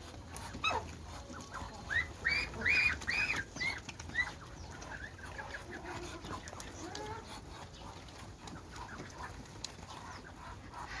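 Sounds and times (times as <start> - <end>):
chickens clucking: 0.0 - 11.0
ducks and geese calling: 0.0 - 11.0.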